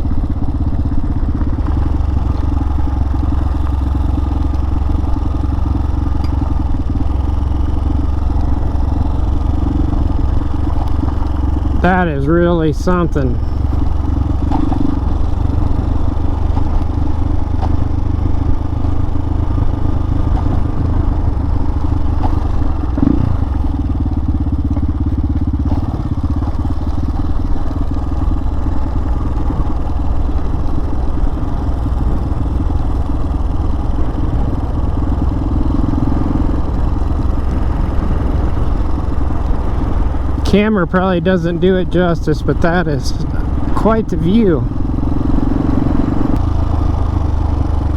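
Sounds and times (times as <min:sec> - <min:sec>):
motorcycle engine cruising: 0:00.0 - 0:47.9
road noise: 0:00.0 - 0:47.9.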